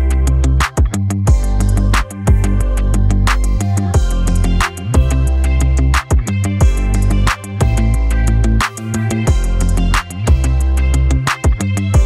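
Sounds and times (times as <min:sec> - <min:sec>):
music with beat and deep bass: 0:00.0 - 0:12.0.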